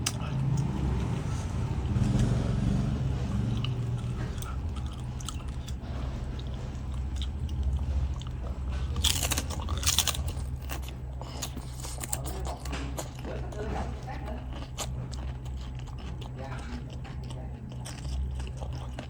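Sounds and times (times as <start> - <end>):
person chewing and crunching food: 0.0 - 19.0
steady low hum: 0.0 - 19.0.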